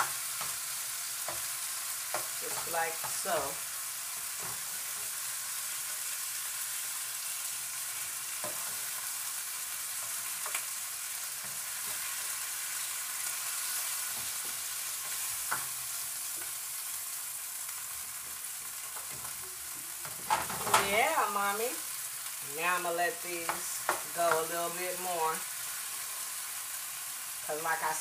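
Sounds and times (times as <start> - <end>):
shrimp sizzling in a frying pan: 0.0 - 28.0.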